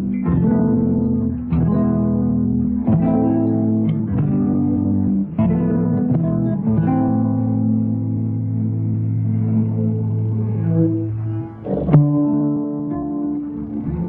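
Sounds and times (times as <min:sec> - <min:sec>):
plucked guitar chords: 0:00.0 - 0:14.0.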